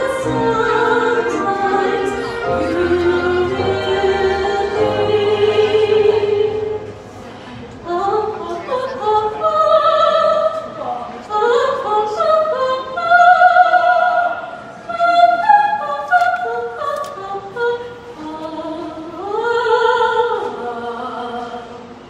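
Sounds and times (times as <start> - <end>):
soprano singing opera: 0.0 - 7.0, 7.8 - 21.9
small classical ensemble: 0.0 - 22.0.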